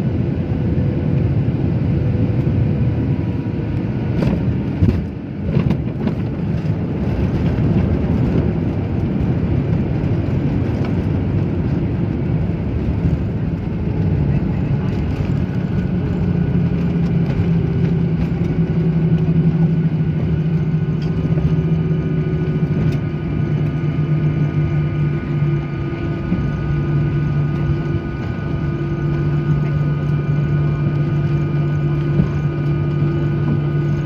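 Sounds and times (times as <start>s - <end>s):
jet engine drone in cabin: 0.0s - 34.0s
high whining engine tones: 6.5s - 34.0s.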